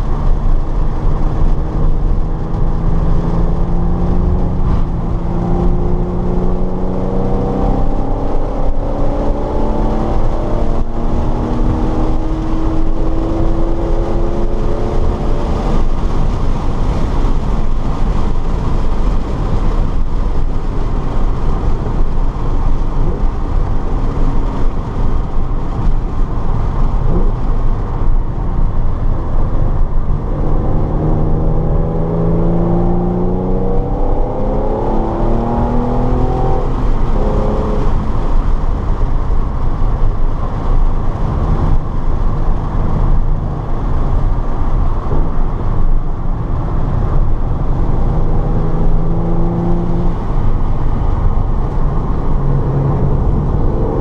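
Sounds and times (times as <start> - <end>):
car engine revving: 0.0 - 54.0
wind and road noise: 0.0 - 54.0.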